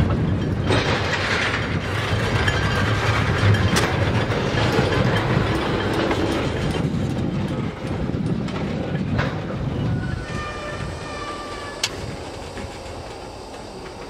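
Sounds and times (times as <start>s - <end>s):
train wheels rumbling on rails: 0.0s - 14.0s
wheels clacking over rail joints: 0.0s - 14.0s.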